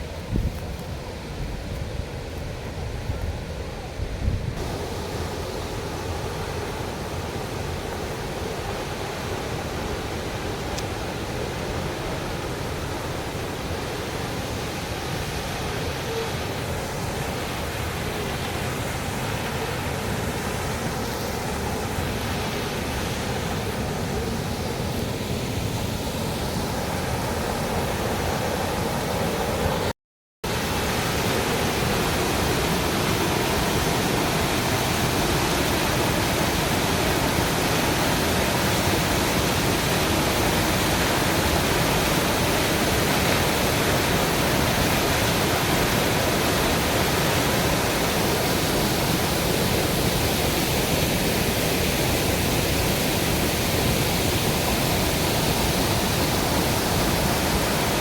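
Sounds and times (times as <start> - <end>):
waterfall rushing: 4.6 - 29.9, 30.5 - 58.0.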